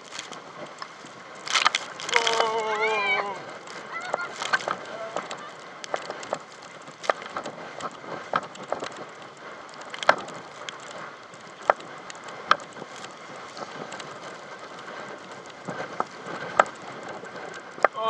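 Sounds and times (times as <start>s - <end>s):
rushing water and wind: 0.0s - 18.0s.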